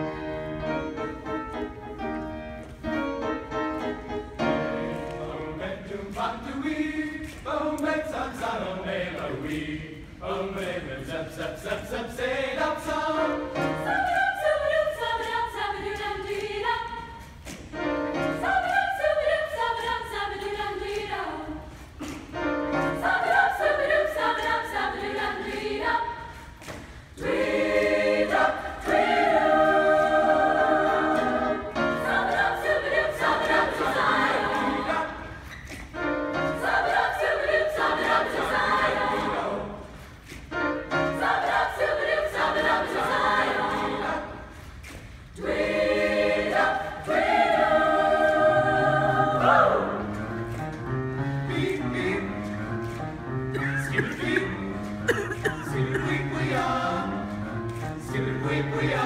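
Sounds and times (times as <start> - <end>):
choir scat-singing: 3.9 - 40.2, 40.8 - 50.4, 51.2 - 52.4, 53.5 - 59.0.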